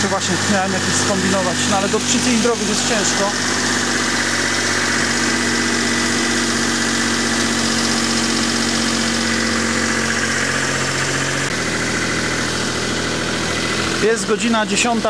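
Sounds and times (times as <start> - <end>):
engine running at fast idle: 0.0 - 15.0.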